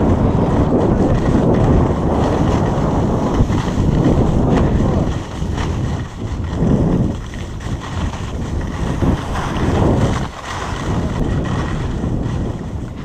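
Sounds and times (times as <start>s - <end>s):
skis scraping on snow: 0.0s - 13.0s
wind buffeting microphone: 0.0s - 13.0s.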